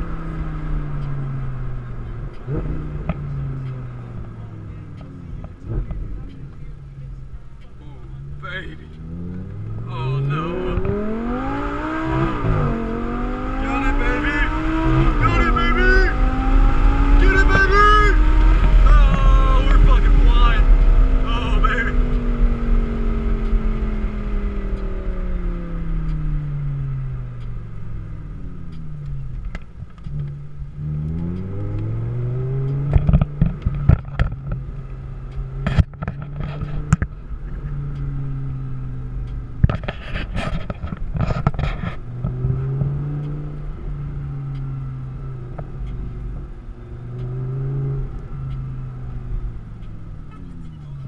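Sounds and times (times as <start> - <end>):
car engine from inside cabin: 0.0 - 51.0.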